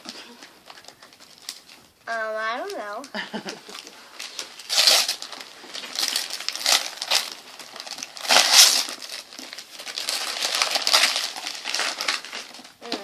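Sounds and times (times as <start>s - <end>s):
wrapping paper tearing and crinkling: 0.0s - 1.9s, 2.5s - 13.0s.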